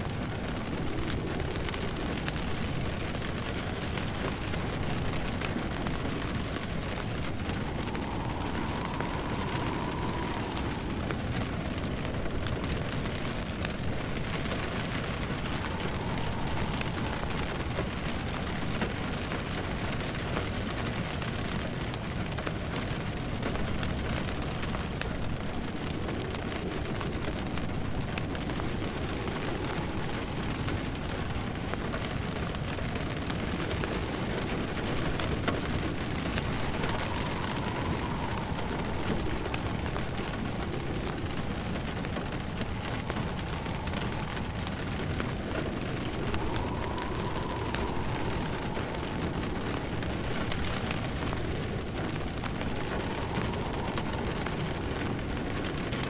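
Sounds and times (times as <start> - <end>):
faint whistle of wind: 0.0 - 56.0
steady rain: 0.0 - 56.0
wood fire crackling: 0.0 - 56.0.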